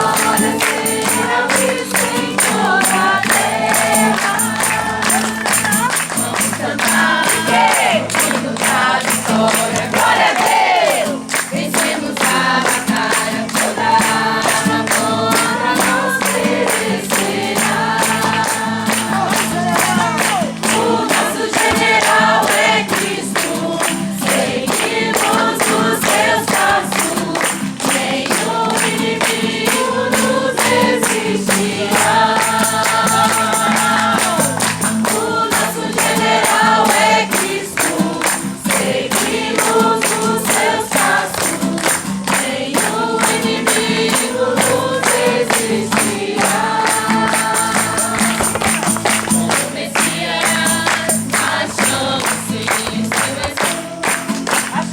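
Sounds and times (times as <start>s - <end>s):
fast percussive beat: 0.0s - 54.9s
group singing praise song: 0.0s - 54.9s.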